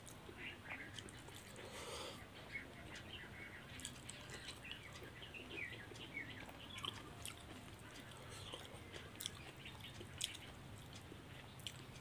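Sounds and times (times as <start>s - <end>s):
person eating rice by hand: 0.0s - 2.2s, 3.8s - 12.0s
small birds chirping: 0.0s - 12.0s.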